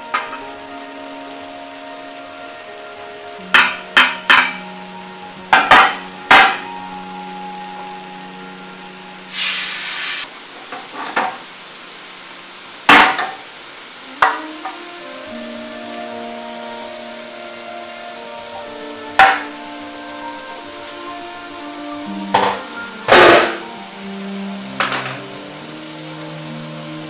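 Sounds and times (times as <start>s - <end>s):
soft background music: 0.0s - 10.3s, 14.0s - 27.0s
water sizzling on hot tray: 0.0s - 27.0s.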